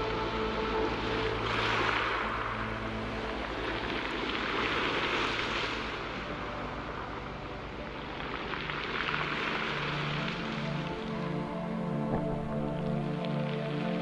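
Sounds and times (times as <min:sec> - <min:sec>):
water-like hiss: 0:00.0 - 0:13.3
soft background music: 0:00.0 - 0:14.0.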